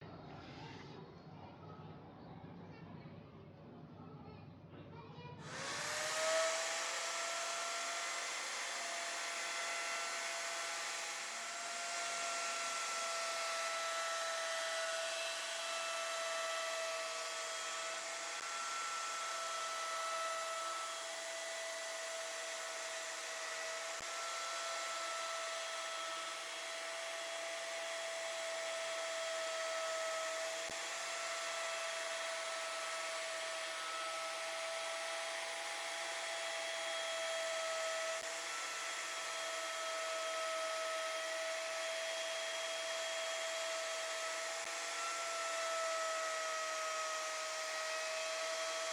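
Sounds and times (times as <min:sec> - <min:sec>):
router spindle whine: 0:05.4 - 0:48.9.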